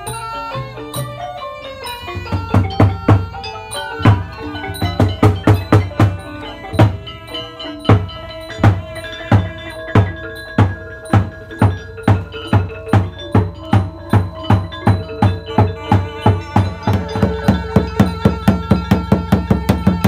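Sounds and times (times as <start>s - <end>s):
xylophone and gong melody: 0.0s - 20.0s
heavy drum strokes: 1.8s - 20.0s.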